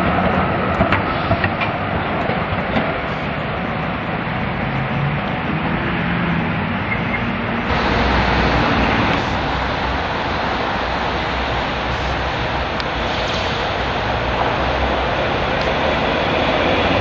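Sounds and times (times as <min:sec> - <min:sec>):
electric tram passing: 0:00.0 - 0:17.0
street traffic noise: 0:00.0 - 0:17.0.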